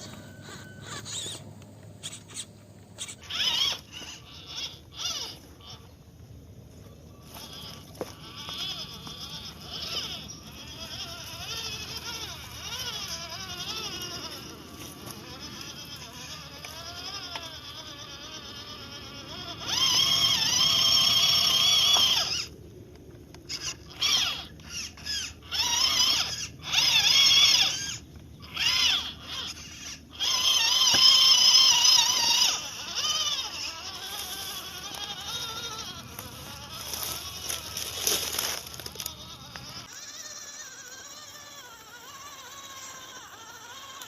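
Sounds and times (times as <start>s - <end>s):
small electric motor whining: 0.0s - 44.0s.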